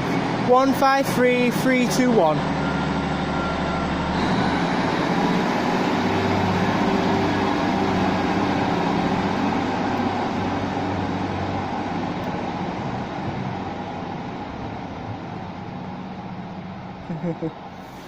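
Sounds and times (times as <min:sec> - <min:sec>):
diesel train engine running: 0:00.0 - 0:18.0.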